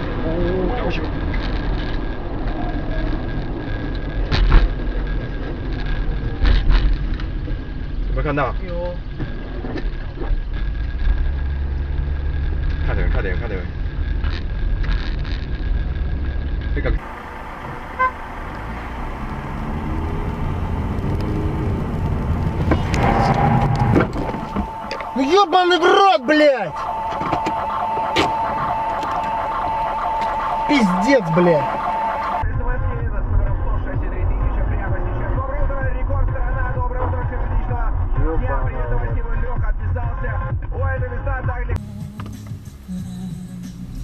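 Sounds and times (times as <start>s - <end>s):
car road and engine noise: 0.0s - 44.0s.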